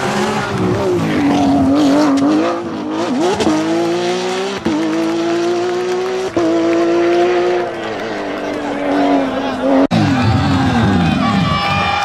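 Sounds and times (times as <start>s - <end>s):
rally car engine at high revs: 0.0s - 11.2s.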